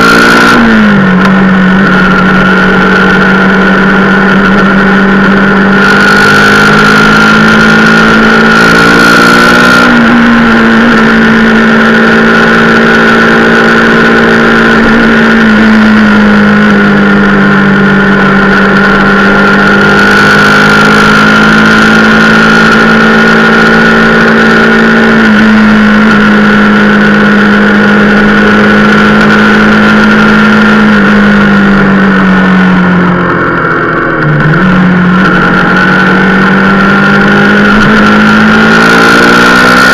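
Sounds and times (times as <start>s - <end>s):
motorcycle engine running: 0.0s - 39.9s
rushing road noise: 0.0s - 39.9s
steady high whine: 0.0s - 39.9s.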